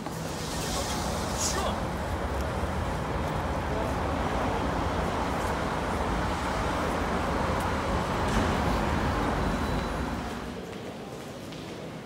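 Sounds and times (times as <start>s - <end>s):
city road traffic rumble: 0.0s - 11.1s.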